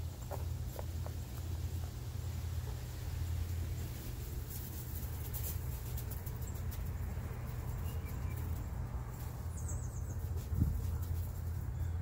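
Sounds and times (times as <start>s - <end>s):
straw and feathers rustling: 0.0s - 11.9s.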